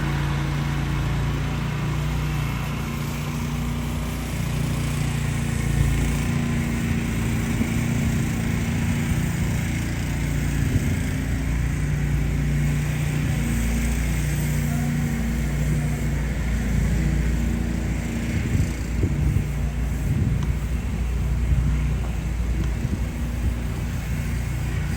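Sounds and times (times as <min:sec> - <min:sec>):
vehicle engine droning: 0:00.0 - 0:24.9.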